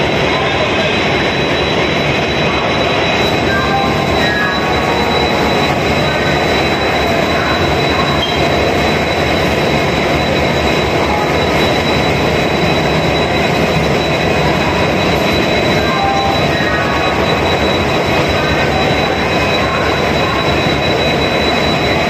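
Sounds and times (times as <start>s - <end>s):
diesel locomotive idling: 0.0s - 22.0s
thin high whine: 0.0s - 22.0s.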